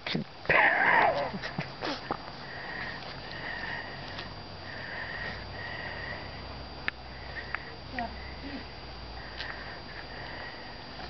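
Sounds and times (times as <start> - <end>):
breathy sniffing: 0.8 - 11.0.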